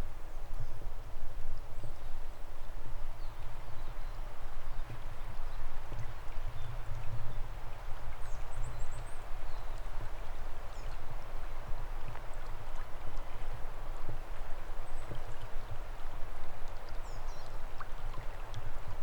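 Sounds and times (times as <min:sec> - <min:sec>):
stream flowing: 0:03.4 - 0:19.0.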